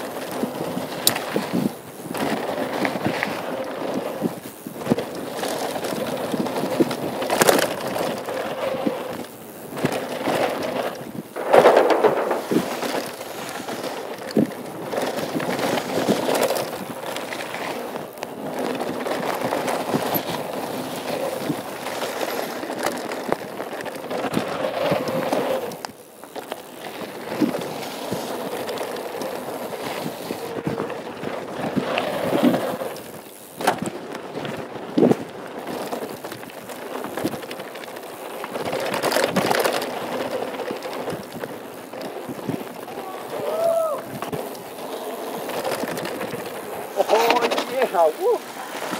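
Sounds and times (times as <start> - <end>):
bike rattling: 0.0 - 48.9
bike tyres crunching on gravel: 0.0 - 48.9.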